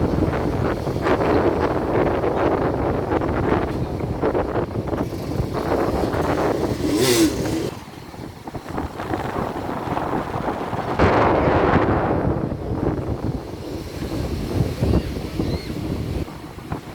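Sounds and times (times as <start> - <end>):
sea surf: 0.0 - 16.9
wind buffeting microphone: 0.0 - 16.9.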